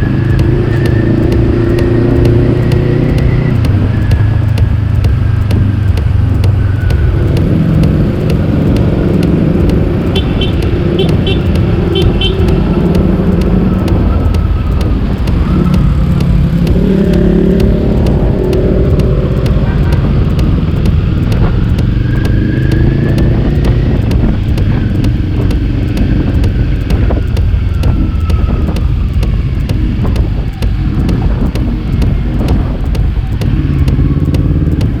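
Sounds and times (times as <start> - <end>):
motorcycle engine revving: 0.0 - 35.0
wind noise on microphone: 0.0 - 35.0.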